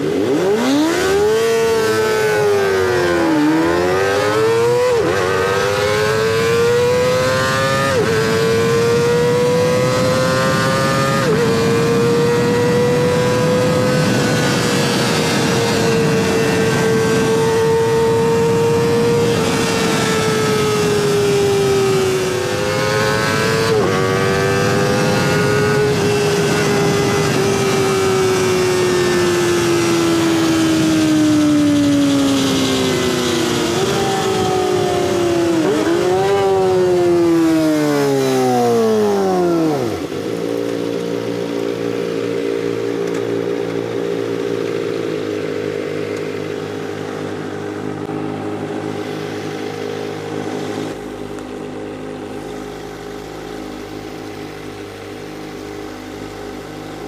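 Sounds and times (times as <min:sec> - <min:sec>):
motorcycle engine at high revs: 0:00.0 - 0:57.0.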